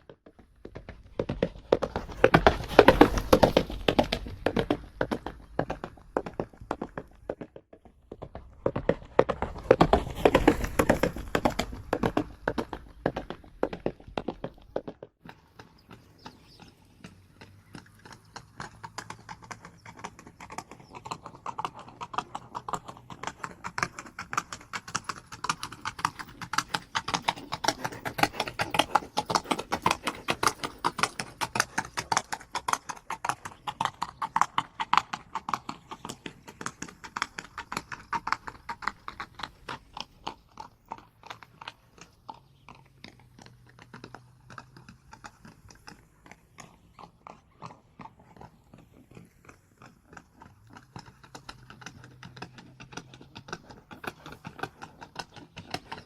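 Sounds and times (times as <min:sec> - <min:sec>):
horse hooves galloping: 0:00.0 - 0:56.0.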